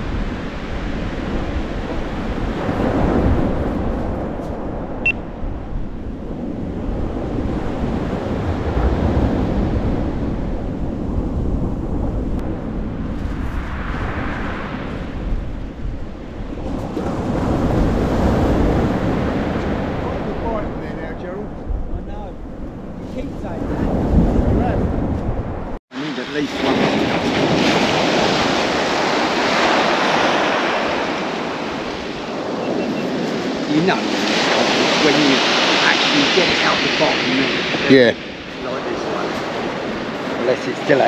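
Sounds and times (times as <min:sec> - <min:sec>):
surf on shingle beach: 0:00.0 - 0:41.0
wind rumbling on microphone: 0:00.0 - 0:41.0.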